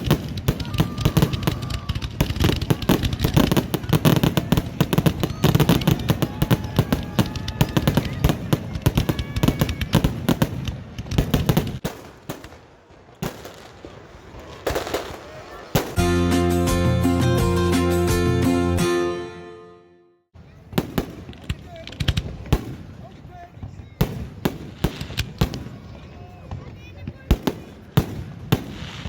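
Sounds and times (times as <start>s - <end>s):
fireworks bangs and crackling: 0.0s - 16.2s, 20.4s - 29.0s.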